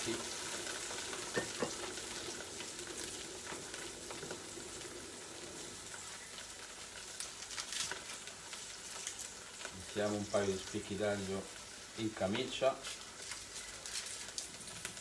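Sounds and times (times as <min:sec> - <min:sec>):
crackles and pops of frying: 0:00.0 - 0:15.0
onions sizzling in oil: 0:00.0 - 0:15.0.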